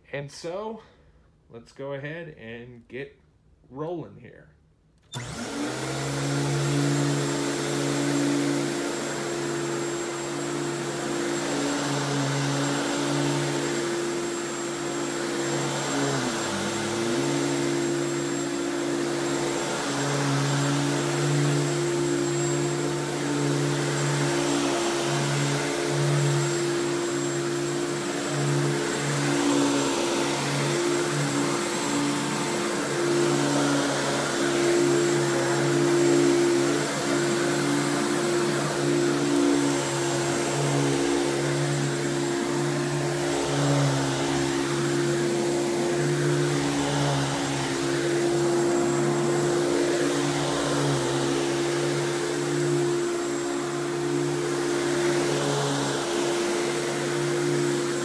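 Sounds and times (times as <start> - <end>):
vacuum cleaner on carpet: 5.0 - 58.0.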